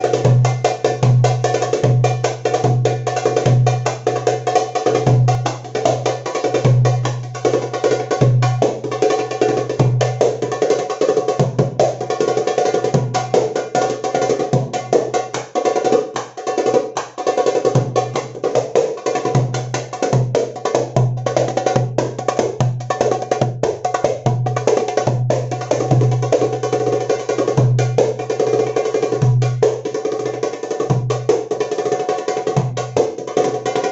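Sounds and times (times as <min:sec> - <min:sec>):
hand drum fast strokes and rolls: 0:00.0 - 0:33.9.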